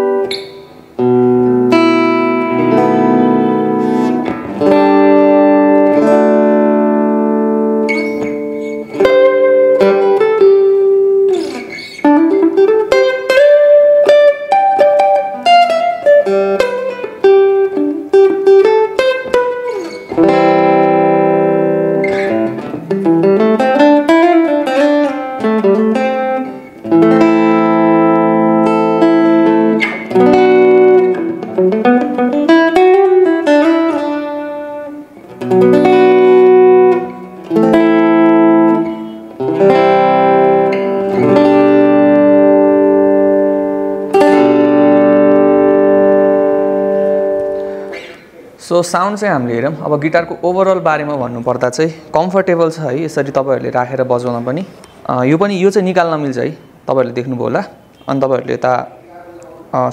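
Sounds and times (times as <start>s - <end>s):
electric guitar chords and melody: 0.0s - 48.6s.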